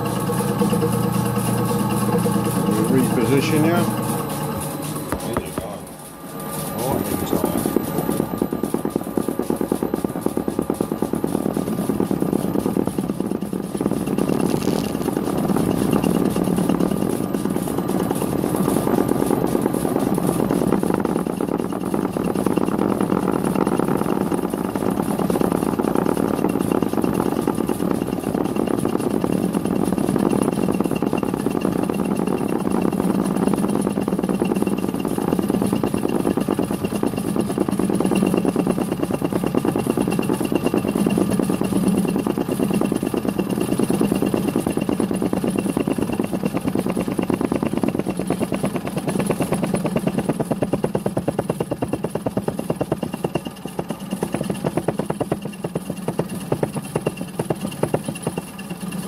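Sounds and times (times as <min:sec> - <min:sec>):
lathe mechanical drone: 0:00.0 - 0:59.0.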